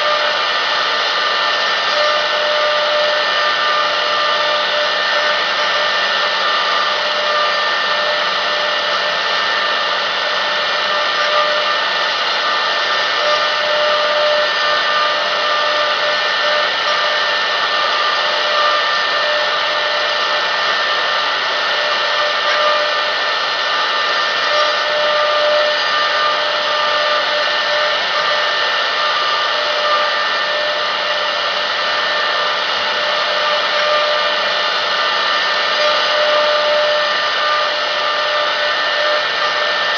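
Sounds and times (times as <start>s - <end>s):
bit carving wood: 0.0s - 39.9s
router spindle whining: 0.0s - 39.9s.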